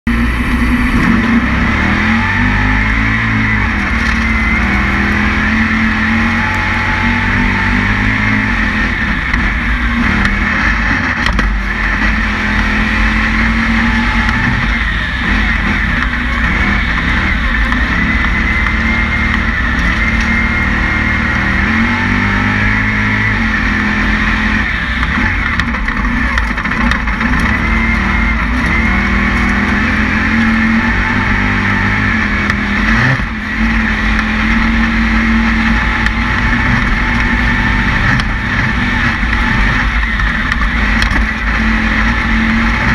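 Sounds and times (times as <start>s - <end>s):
race car engine running hard: 0.0s - 42.9s.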